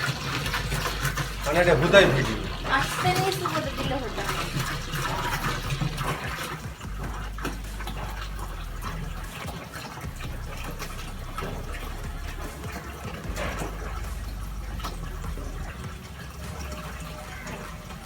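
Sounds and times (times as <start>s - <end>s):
water pouring and splashing: 0.0s - 18.0s
low hum: 0.4s - 18.0s.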